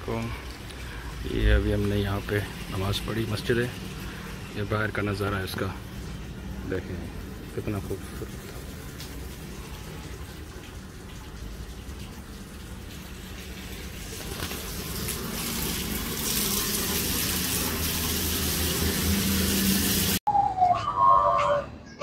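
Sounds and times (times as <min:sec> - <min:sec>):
water running from tap: 0:00.0 - 0:20.2.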